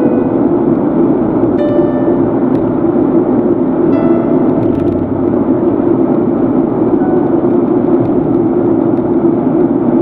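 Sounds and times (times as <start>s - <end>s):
car engine running: 0.0s - 10.0s
road and tyre noise in car cabin: 0.0s - 10.0s.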